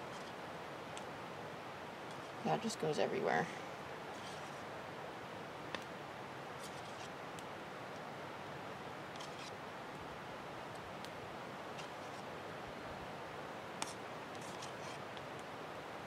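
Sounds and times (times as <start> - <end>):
low hiss: 0.0 - 16.0.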